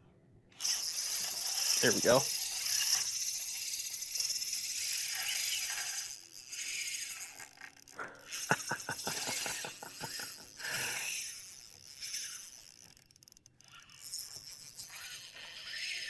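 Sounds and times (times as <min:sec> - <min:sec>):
fishing reel drag clicking: 0:00.6 - 0:16.0.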